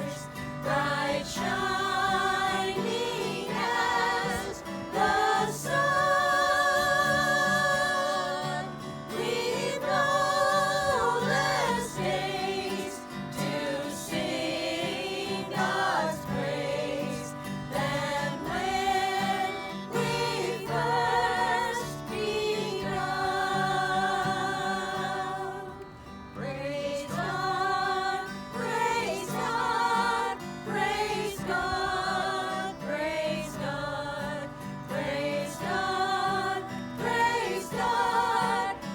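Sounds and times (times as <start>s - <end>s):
voices singing a hymn: 0.0s - 38.9s
low musical accompaniment: 0.1s - 38.9s.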